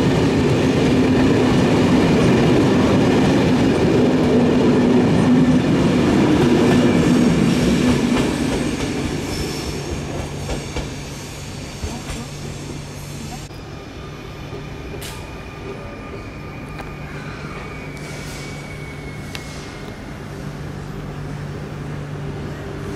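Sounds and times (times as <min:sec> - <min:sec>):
train wheels on rail: 0:00.0 - 0:22.9.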